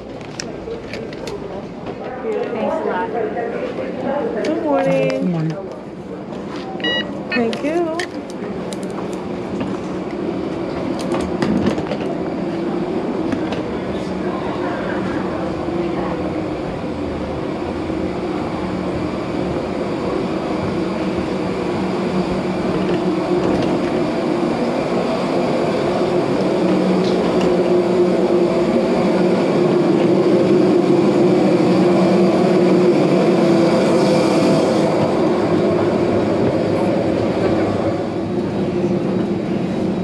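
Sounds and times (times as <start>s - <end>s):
air-handling machinery droning hum: 1.4s - 40.0s.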